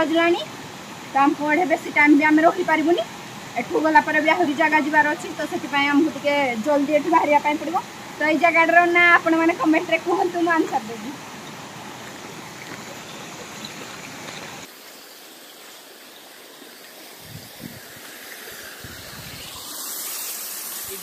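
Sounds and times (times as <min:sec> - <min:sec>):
water rushing over weir: 0:00.0 - 0:21.0.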